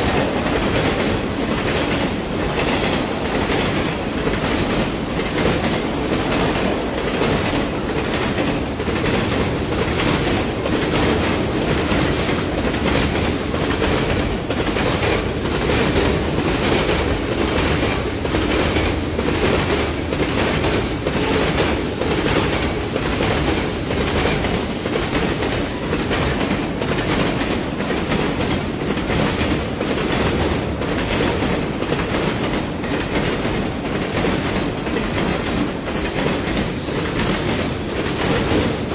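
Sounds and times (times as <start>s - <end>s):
train rumbling: 0.0s - 38.9s
wheels clacking over rail joints: 0.0s - 38.9s.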